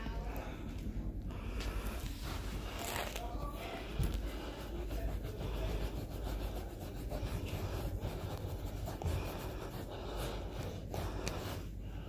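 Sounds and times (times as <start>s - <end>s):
low steady rumble: 0.0s - 12.0s
towel rubbing on carpet: 1.7s - 11.8s.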